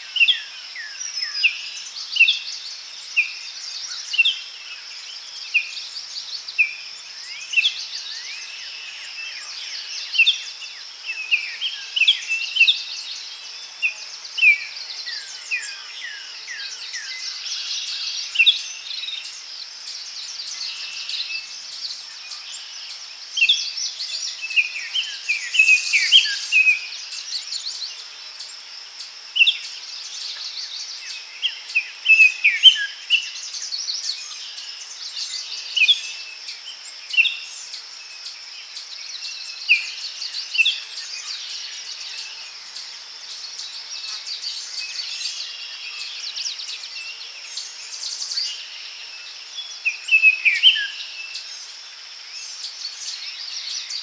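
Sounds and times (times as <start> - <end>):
high insect drone: 0.0 - 54.0
songbirds chirping: 0.0 - 54.0.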